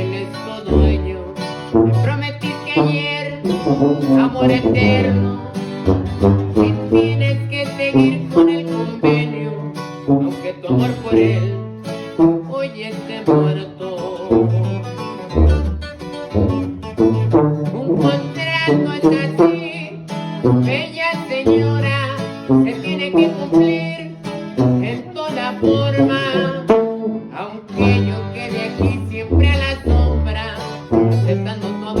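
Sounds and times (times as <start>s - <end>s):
bass notes: 0.0s - 9.4s, 10.0s - 12.6s, 13.3s - 20.9s, 24.6s - 32.0s
plucked strings: 0.0s - 32.0s.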